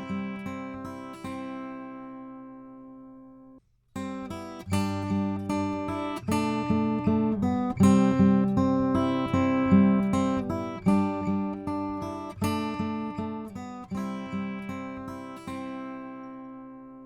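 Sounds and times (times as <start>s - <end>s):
strummed acoustic guitar chords: 0.0s - 3.3s, 4.0s - 17.0s.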